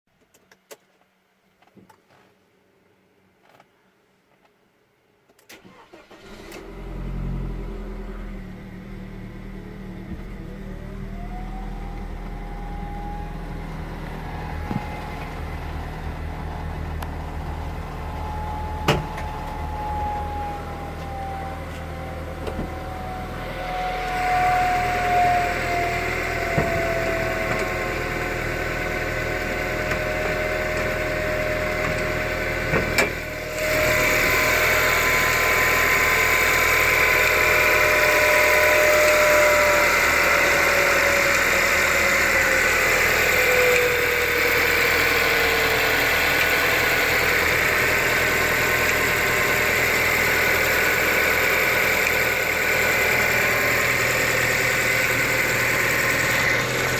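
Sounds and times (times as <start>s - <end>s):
car engine idling: 5.7s - 56.9s.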